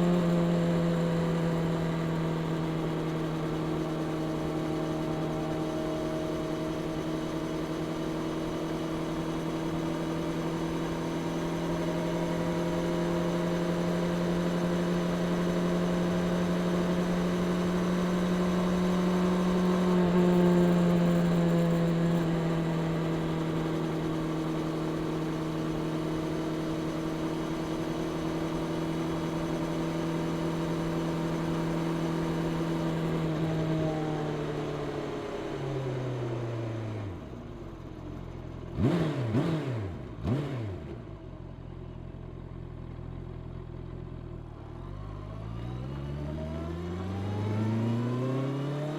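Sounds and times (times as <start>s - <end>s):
motorcycle engine while riding: 0.0s - 48.9s.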